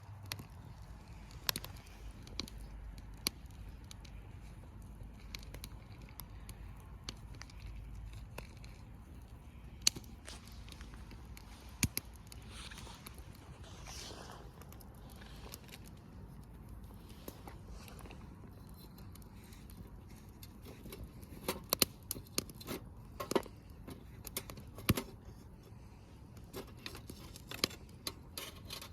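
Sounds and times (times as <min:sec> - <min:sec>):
sharp pops from fire: 0:00.0 - 0:08.6, 0:09.2 - 0:18.0, 0:19.1 - 0:25.2
campfire crackling: 0:00.0 - 0:28.9.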